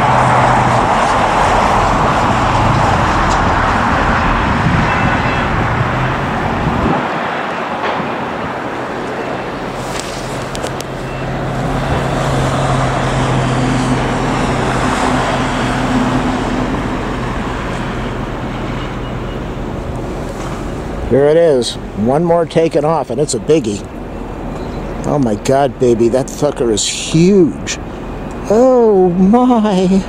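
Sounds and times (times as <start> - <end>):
low engine hum: 0.0 - 30.0
road traffic rumble: 0.0 - 30.0.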